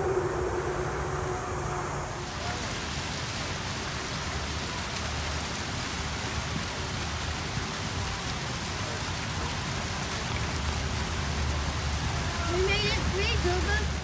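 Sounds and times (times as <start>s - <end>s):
water splashing into pond: 2.2s - 14.0s.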